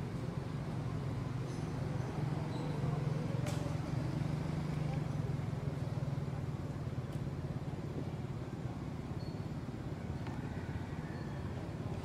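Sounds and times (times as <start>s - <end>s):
outdoor background noise: 0.0s - 12.0s
vehicle engine humming: 0.0s - 12.0s.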